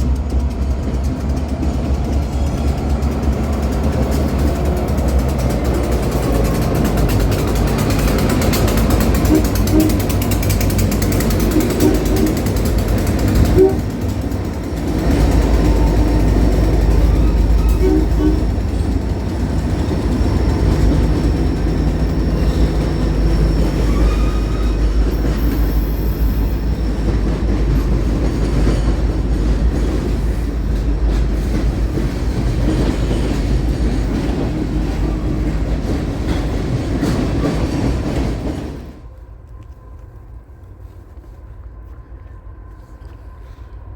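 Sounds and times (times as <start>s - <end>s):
wheels clicking over rail joints: 0.0s - 39.5s
train rumbling past: 0.0s - 43.9s.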